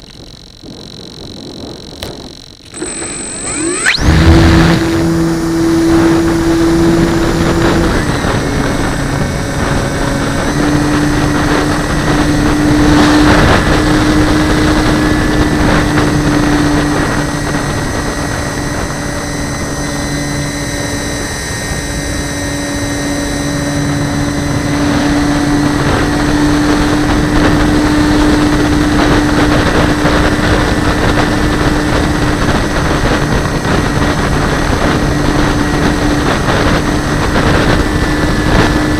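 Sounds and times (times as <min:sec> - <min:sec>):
propeller engine droning: 0:00.0 - 0:38.9
wind rushing over camera: 0:00.0 - 0:38.9.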